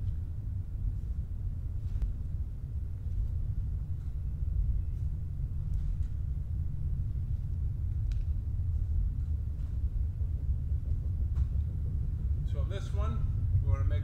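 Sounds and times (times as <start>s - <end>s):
low rumble of room noise: 0.0s - 14.0s.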